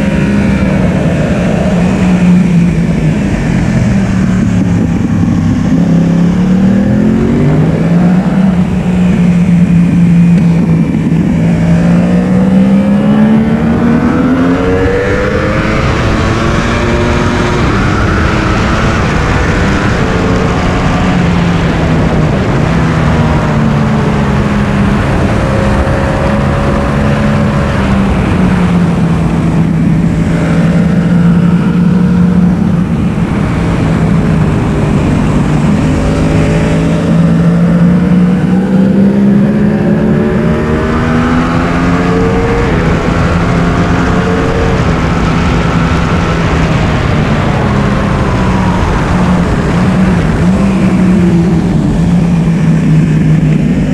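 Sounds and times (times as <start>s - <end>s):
motorcycle engine revving: 0.0s - 53.9s
wind and road rush: 0.0s - 53.9s.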